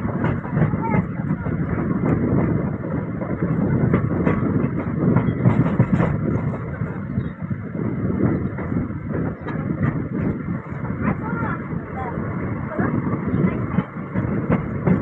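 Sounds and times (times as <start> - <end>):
train coach rumbling and rattling: 0.0 - 15.0
wheels clicking over rails: 0.0 - 15.0.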